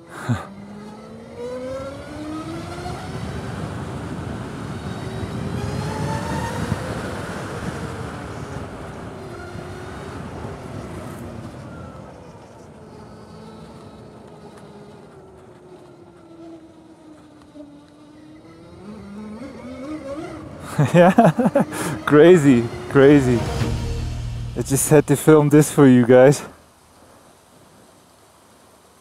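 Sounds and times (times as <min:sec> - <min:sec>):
vehicle accelerating: 0:00.0 - 0:26.4
road and wind noise: 0:00.0 - 0:29.0.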